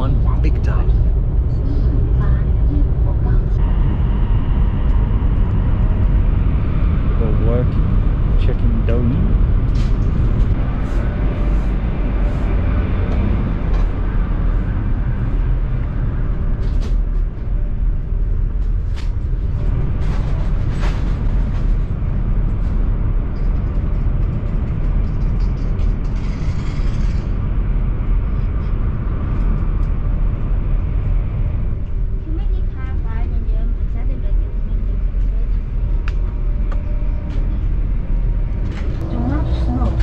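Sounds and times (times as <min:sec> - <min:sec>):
train interior rumble: 0:00.0 - 0:40.0.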